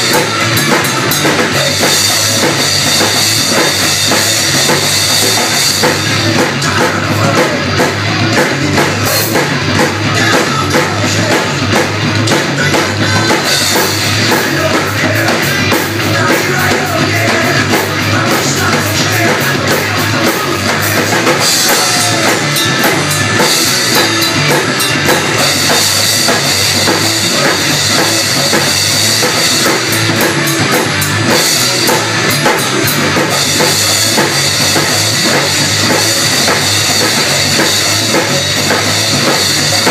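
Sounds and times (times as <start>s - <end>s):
drum kit playing rock beat: 0.0s - 39.9s
recorded rock song: 0.0s - 39.9s.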